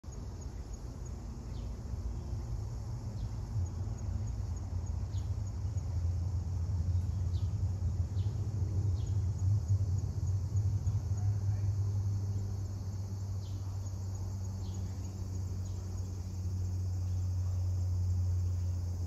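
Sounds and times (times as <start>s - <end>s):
insect chirping: 0.1s - 19.0s
steady low hum: 0.1s - 19.0s.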